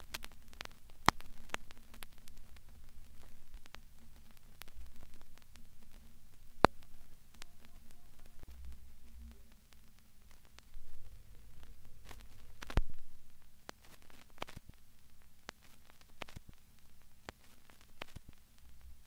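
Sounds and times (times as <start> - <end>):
low steady hum: 0.0 - 19.0
static clicks and pops: 0.0 - 19.0.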